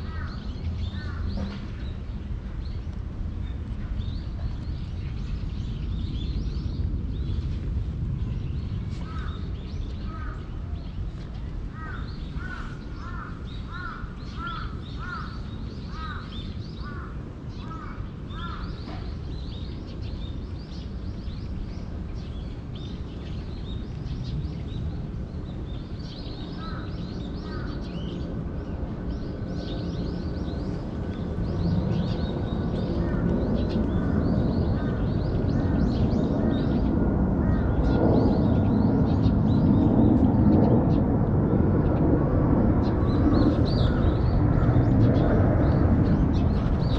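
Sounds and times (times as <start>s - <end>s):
small birds chirping: 0.0s - 41.1s, 42.8s - 46.9s
steady low rumble: 0.0s - 46.9s.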